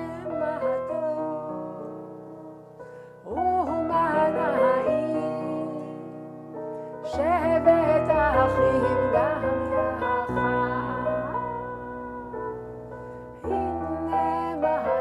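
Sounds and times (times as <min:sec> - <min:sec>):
woman singing a melody: 0:00.0 - 0:12.3, 0:13.4 - 0:15.0.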